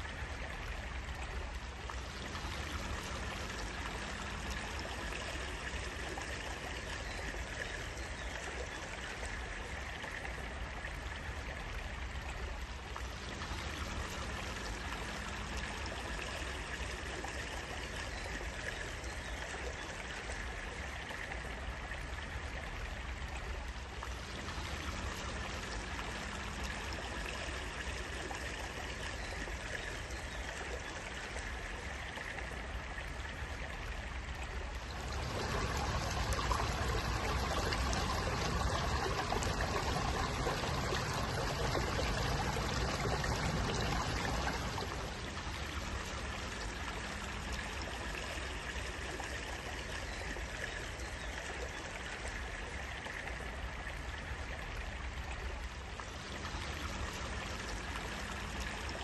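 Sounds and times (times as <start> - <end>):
running water flowing: 0.0 - 59.0.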